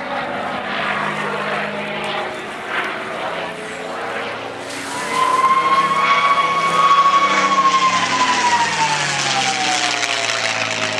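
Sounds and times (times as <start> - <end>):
propeller plane engine: 0.0 - 10.9.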